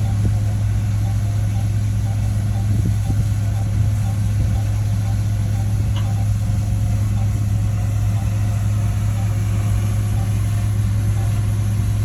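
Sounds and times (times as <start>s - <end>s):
faint regular ticking: 0.0s - 11.8s
diesel engine idling: 0.0s - 12.0s.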